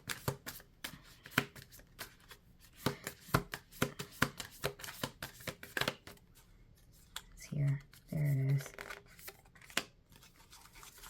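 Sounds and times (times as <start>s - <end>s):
cards being shuffled by hand: 0.0s - 6.2s, 6.8s - 11.0s.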